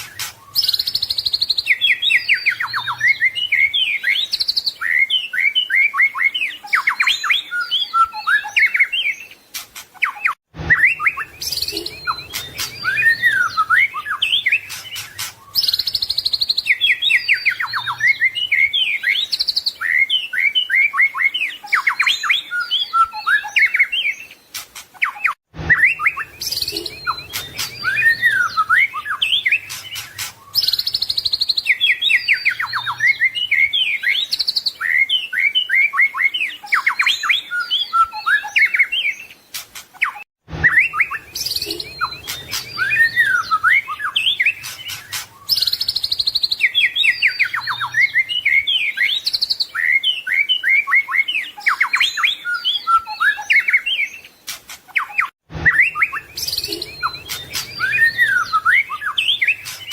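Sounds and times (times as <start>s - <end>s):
songbird whistles and trills: 0.0s - 59.9s.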